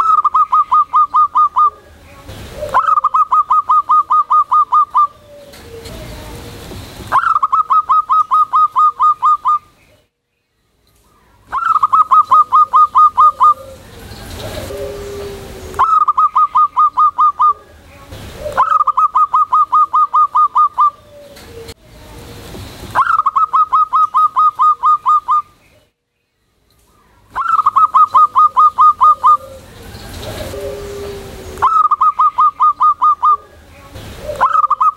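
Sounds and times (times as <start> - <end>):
dove cooing song: 0.0 - 10.0, 11.4 - 22.0, 23.0 - 25.8, 27.3 - 34.9.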